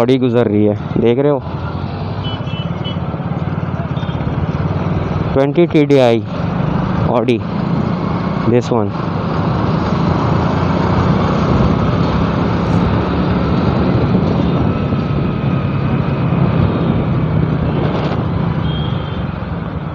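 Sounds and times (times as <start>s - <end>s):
moving vehicle road and wind noise: 0.0s - 19.9s.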